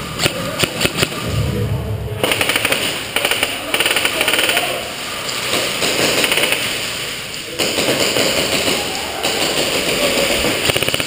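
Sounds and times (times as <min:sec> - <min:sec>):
airsoft guns firing with echo: 0:00.1 - 0:01.4, 0:02.2 - 0:11.0.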